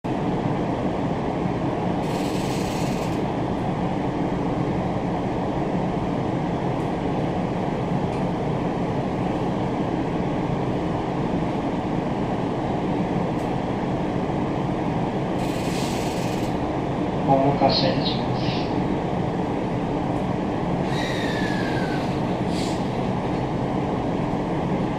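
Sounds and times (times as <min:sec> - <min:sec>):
train interior rumble: 0:00.0 - 0:24.9.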